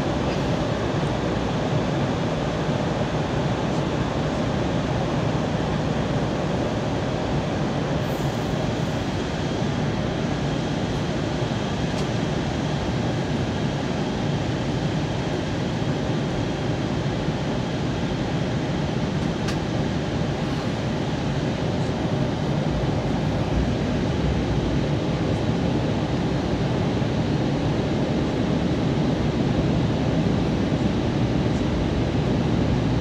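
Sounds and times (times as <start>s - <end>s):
jet engines droning: 0.0s - 33.0s.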